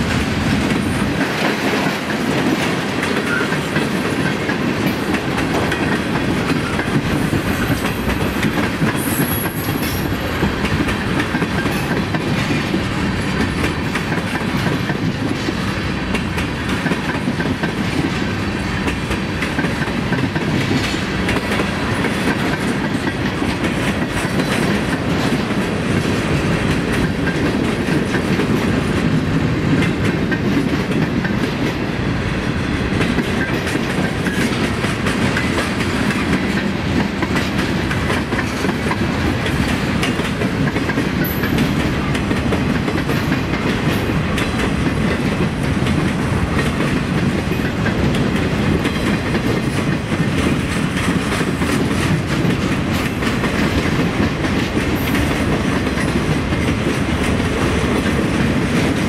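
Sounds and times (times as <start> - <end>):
freight train wheels rumbling: 0.0 - 59.0
wheels clacking over rail joints: 0.0 - 59.0.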